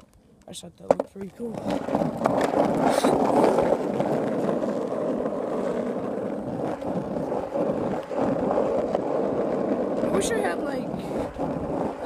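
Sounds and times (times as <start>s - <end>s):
skateboard wheels rolling on pavement: 0.0s - 12.0s.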